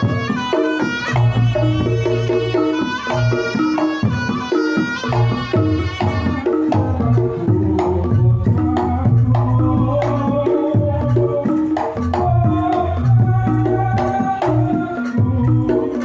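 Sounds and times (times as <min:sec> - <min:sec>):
clattering percussion: 0:00.0 - 0:16.0
drum strokes: 0:00.0 - 0:16.0
reed shawm melody: 0:00.0 - 0:16.0.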